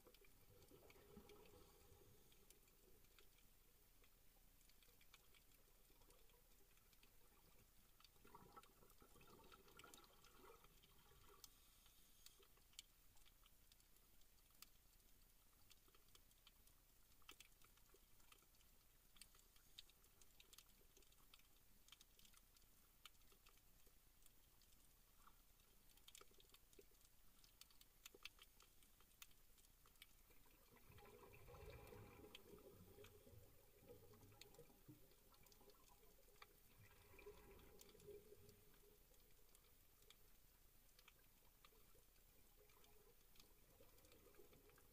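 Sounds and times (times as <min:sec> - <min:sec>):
faint underwater crackling clicks: 0:00.0 - 0:44.9.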